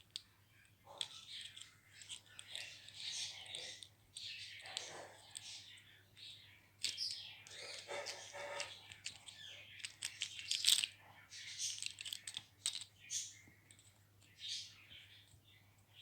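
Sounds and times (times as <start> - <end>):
parakeet toys clicking and rattling: 0.0 - 14.7
soft scratchy sounds: 0.0 - 16.0.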